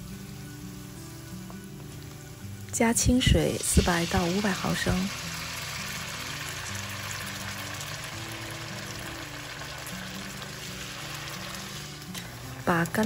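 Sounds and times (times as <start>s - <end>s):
background music held notes: 0.0s - 13.0s
water hissing in hot wok: 0.0s - 13.0s.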